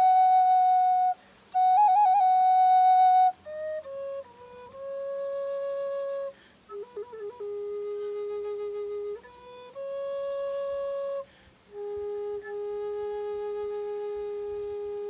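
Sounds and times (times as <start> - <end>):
wooden flute melody: 0.0 - 15.0.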